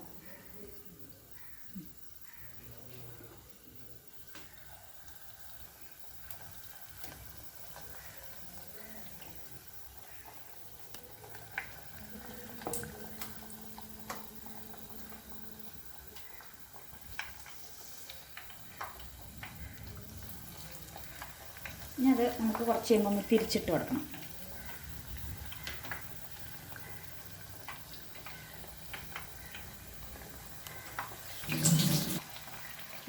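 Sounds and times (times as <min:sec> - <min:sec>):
slices frying in hot oil: 0:00.0 - 0:33.0
oil popping and crackling: 0:04.1 - 0:33.0.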